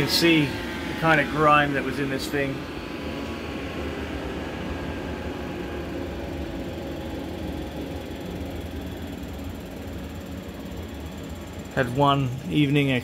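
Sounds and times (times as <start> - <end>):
fan-like hiss: 0.0 - 13.0
machine hum: 0.0 - 13.0.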